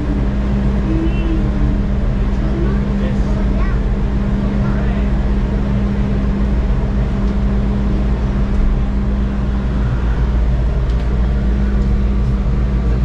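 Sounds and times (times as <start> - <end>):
deep rumble: 0.0 - 13.0
funicular car humming: 0.0 - 13.0.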